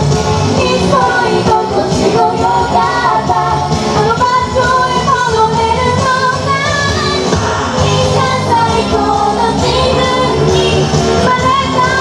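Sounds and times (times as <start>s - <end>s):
pop backing music: 0.0s - 12.0s
girls singing into microphones: 0.5s - 12.0s.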